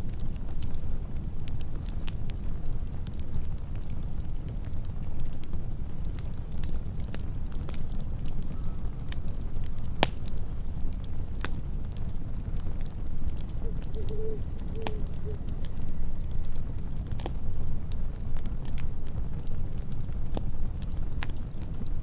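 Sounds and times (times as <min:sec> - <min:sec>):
campfire crackling and popping: 0:00.0 - 0:22.0
crickets chirping: 0:00.0 - 0:22.0.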